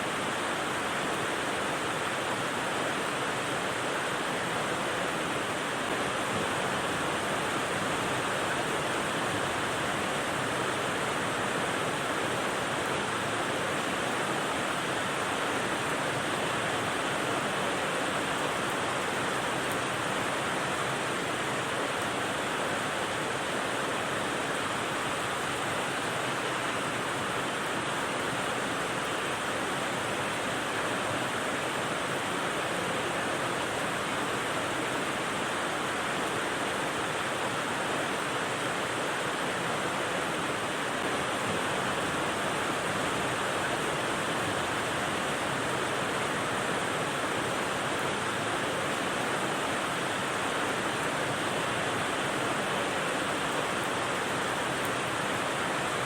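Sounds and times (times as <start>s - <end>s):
rain white noise hiss: 0.0s - 56.0s.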